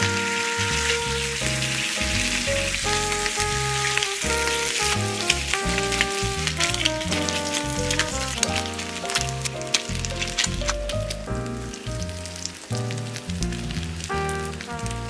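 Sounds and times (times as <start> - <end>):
background melody: 0.0 - 15.0
bacon sizzling in oil: 0.0 - 15.0.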